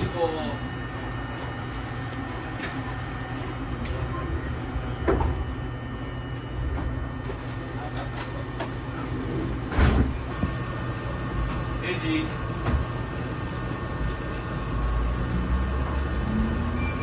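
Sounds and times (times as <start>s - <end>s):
train low hum: 0.0s - 17.0s.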